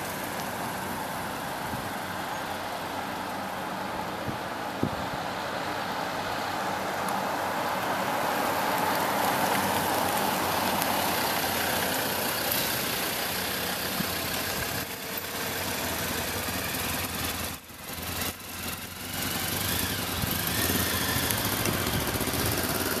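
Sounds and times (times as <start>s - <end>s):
motorcycle passing: 0.0s - 23.0s
street traffic: 0.0s - 23.0s.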